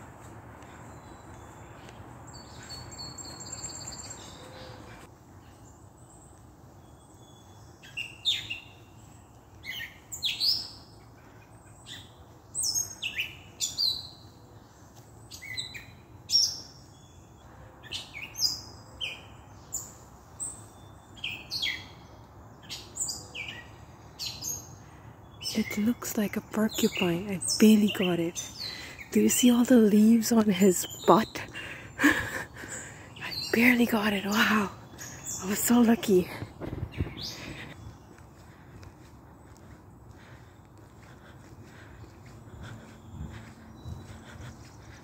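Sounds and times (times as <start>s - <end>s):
songbird chirping: 0.0s - 45.0s.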